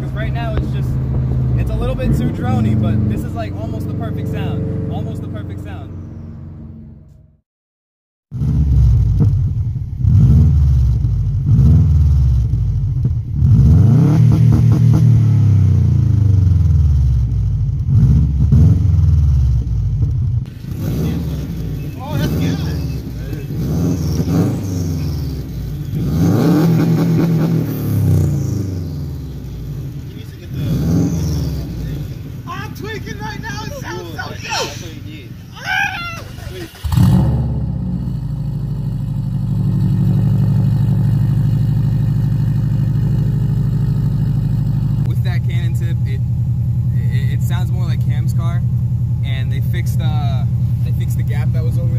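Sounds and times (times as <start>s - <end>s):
car engine rumbling through exhaust: 0.0s - 7.3s, 8.3s - 51.9s.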